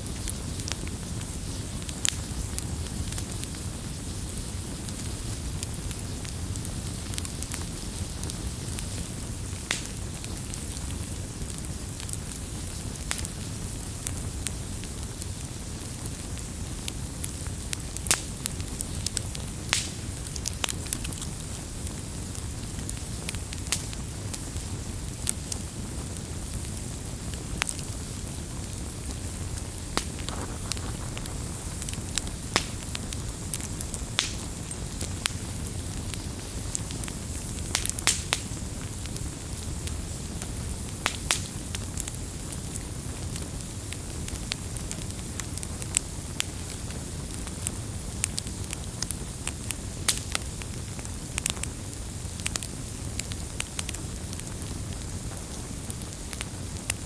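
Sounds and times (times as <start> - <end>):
firewood crackling and popping: 0.0 - 57.0
flame rushing: 0.0 - 57.0.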